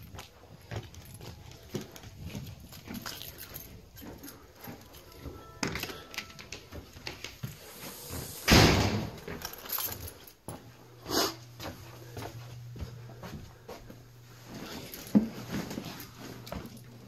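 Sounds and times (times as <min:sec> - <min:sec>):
low steady hum: 0:00.2 - 0:17.0.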